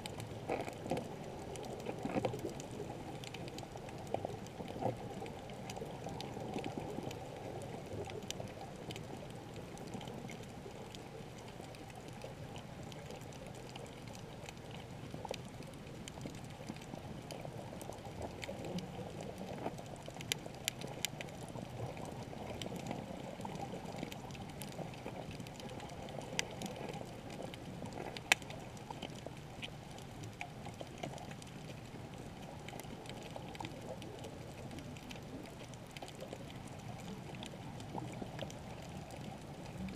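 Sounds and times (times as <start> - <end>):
sharp underwater clicks: 0.0 - 39.9
underwater wash of moving water: 0.0 - 39.9.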